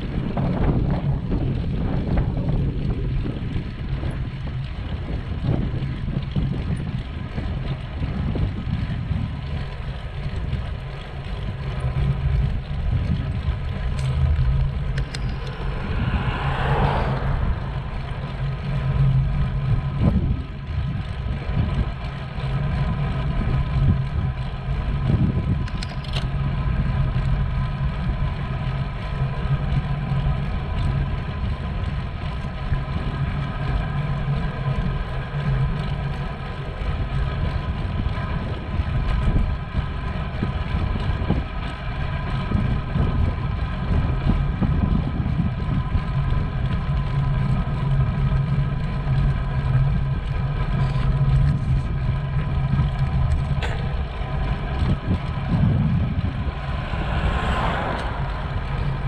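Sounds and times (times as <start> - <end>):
steady hum: 0.0 - 59.0
wind buffeting microphone: 0.0 - 59.0.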